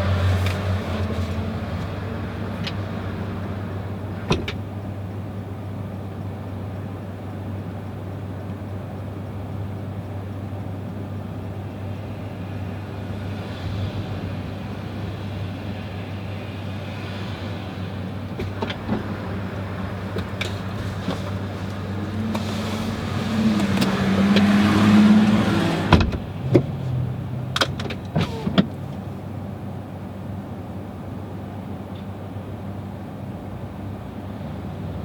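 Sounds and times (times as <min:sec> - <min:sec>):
road and tyre noise in car: 0:00.0 - 0:35.0.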